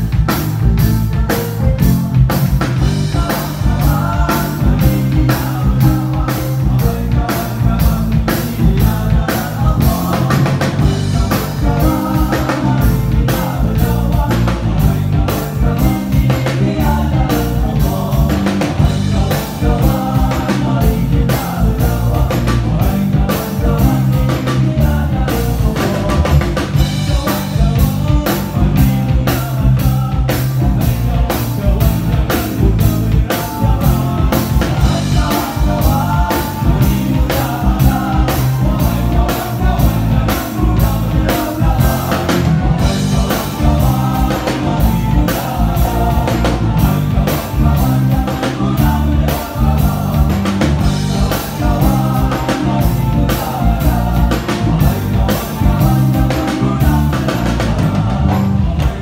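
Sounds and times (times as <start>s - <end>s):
live band playing upbeat song: 0.0s - 59.0s
vocal group singing: 0.0s - 59.0s.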